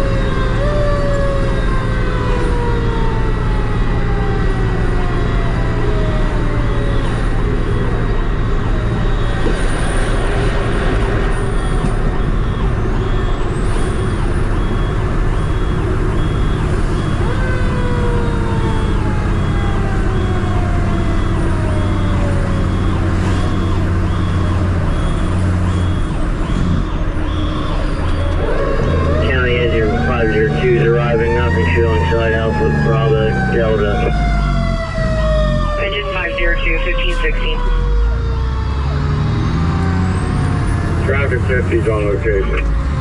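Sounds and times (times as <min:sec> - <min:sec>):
diesel engine running: 0:00.0 - 0:43.0
siren sliding down in pitch: 0:00.0 - 0:43.0.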